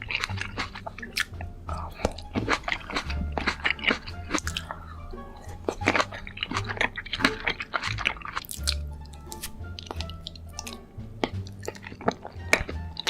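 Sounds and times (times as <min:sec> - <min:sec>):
background music with bass: 0:00.0 - 0:13.0
chewing and biting food: 0:00.0 - 0:13.0.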